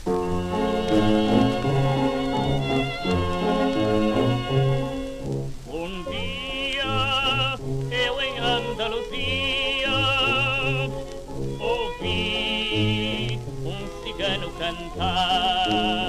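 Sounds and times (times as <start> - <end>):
old record playing music: 0.0 - 16.0.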